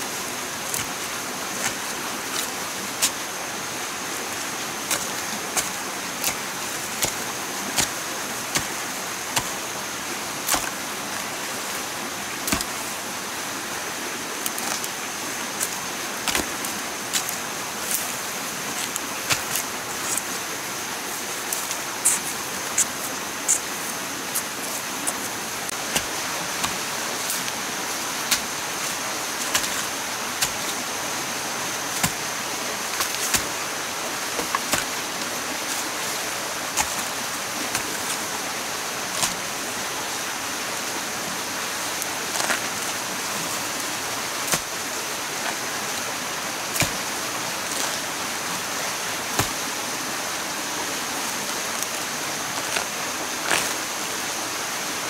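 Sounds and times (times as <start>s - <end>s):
rushing water-like noise: 0.0s - 55.0s.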